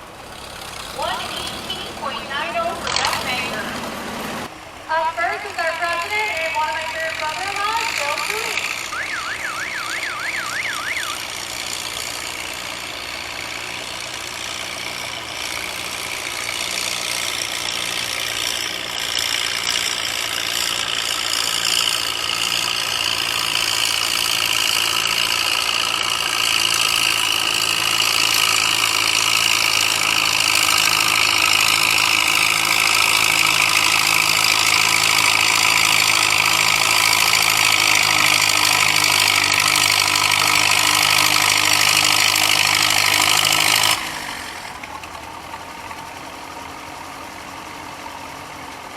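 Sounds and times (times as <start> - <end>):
tractor engine under load: 0.0 - 48.9.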